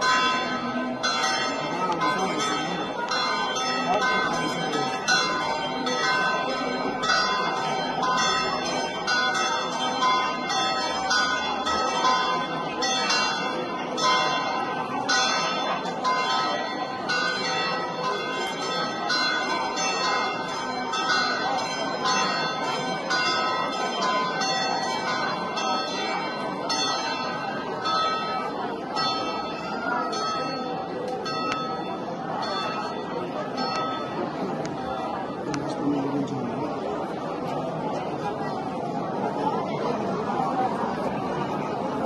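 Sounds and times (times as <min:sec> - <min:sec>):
church bells pealing: 0:00.0 - 0:42.0.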